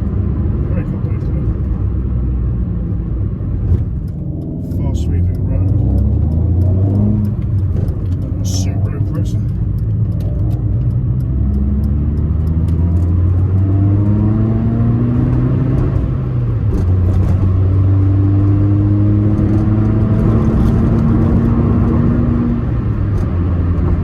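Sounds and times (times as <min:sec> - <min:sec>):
car engine accelerating: 0:00.0 - 0:24.0
road noise: 0:00.0 - 0:24.0.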